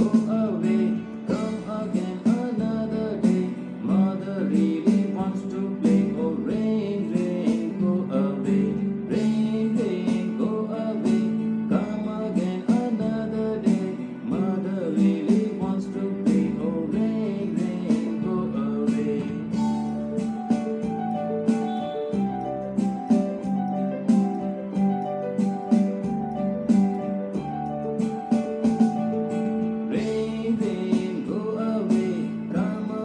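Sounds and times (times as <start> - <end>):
person singing: 0.0 - 23.6, 29.7 - 33.0
children's song with guitar: 0.0 - 33.0.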